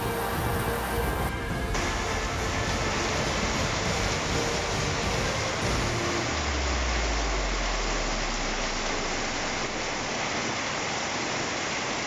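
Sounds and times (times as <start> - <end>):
low rumble: 0.0 - 10.3
heavy rain pouring: 0.0 - 12.0.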